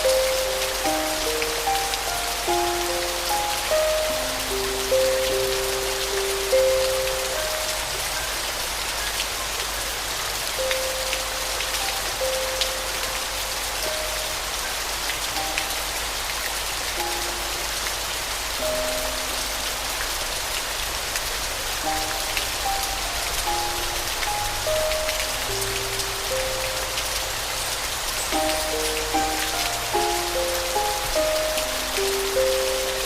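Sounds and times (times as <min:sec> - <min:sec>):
soft piano notes: 0:00.0 - 0:09.2, 0:10.4 - 0:33.0
rain falling: 0:00.0 - 0:33.0.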